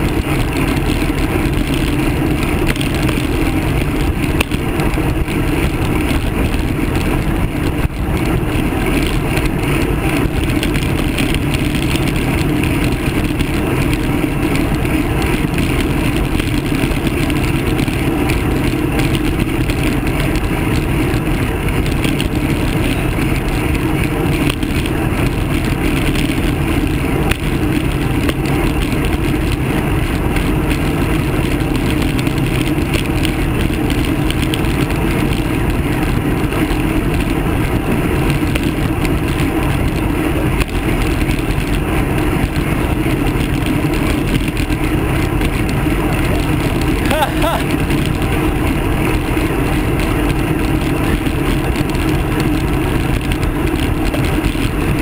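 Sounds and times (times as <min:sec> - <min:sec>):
bicycle road and tyre noise: 0:00.0 - 0:55.0
wind buffeting microphone: 0:00.0 - 0:55.0.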